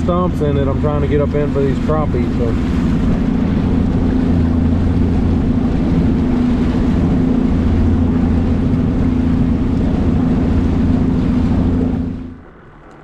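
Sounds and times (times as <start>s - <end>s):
outboard motor drone: 0.0s - 13.0s.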